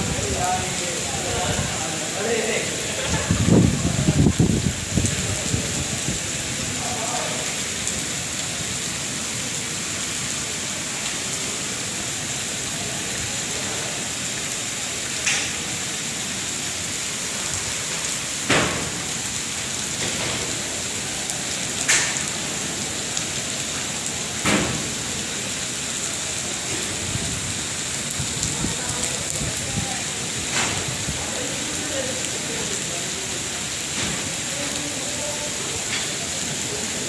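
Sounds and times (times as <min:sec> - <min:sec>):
rain splashing on surfaces: 0:00.0 - 0:37.0.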